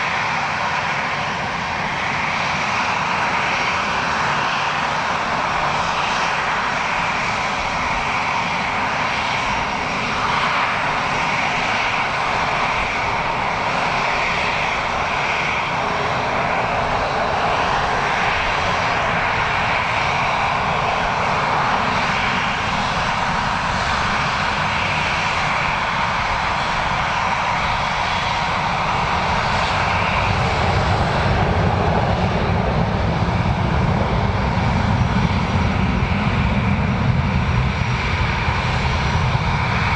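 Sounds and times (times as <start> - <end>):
airliner engines whining: 0.0 - 39.9.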